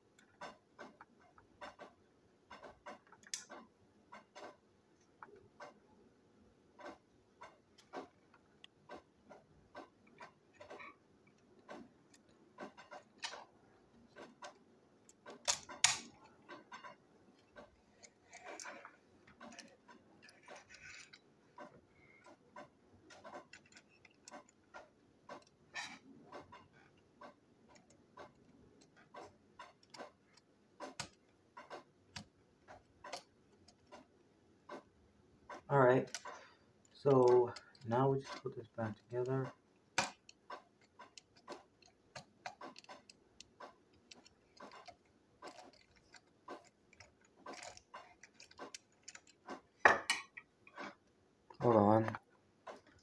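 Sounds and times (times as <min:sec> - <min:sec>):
small plastic parts clicking: 0:00.1 - 0:05.8, 0:06.8 - 0:34.9, 0:35.5 - 0:53.0.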